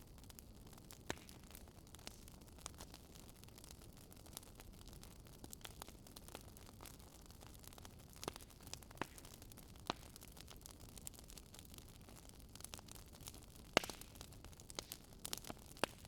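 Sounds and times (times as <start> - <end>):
fire popping: 0.0 - 16.0
wood bonfire crackling: 0.0 - 16.0.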